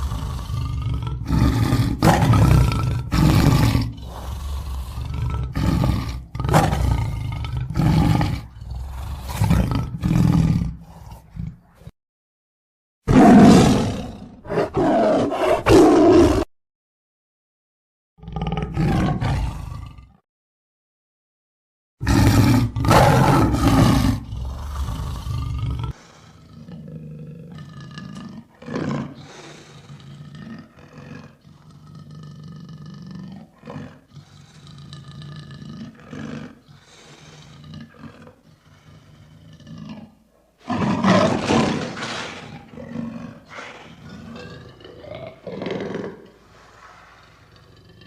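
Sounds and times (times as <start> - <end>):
lion roaring: 0.0 - 11.9, 13.1 - 16.5, 18.2 - 20.2, 22.0 - 48.0.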